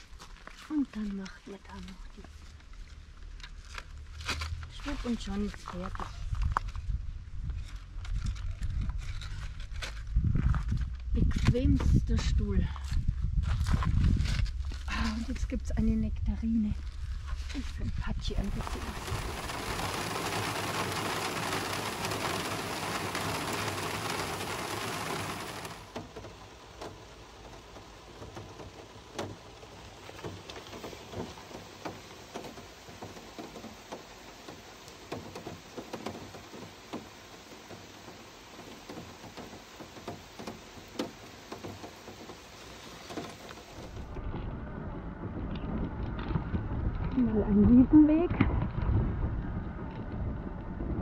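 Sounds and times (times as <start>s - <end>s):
rain on a metal roof: 0.0s - 8.2s, 14.8s - 44.5s, 45.2s - 51.0s.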